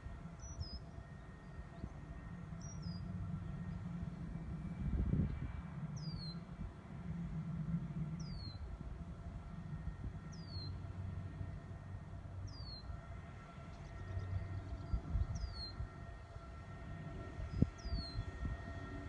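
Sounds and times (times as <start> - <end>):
faint constant tones: 0.0 - 19.0
steady low rumble: 0.0 - 19.0.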